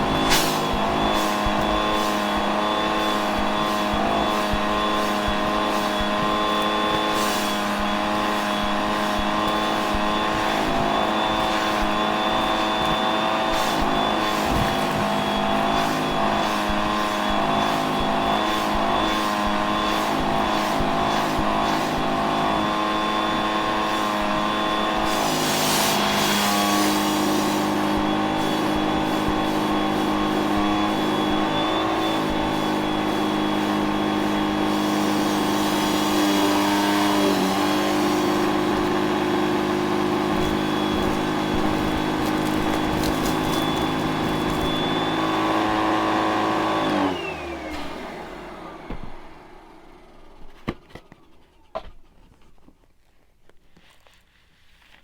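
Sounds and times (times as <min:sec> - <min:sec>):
vacuum cleaner motor whining: 0:00.0 - 0:52.1.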